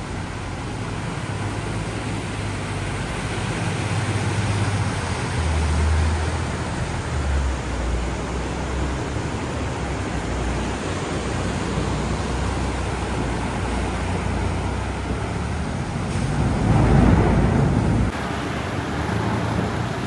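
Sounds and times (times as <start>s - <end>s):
rushing water: 0.0s - 20.0s
rushing wind: 0.0s - 20.0s.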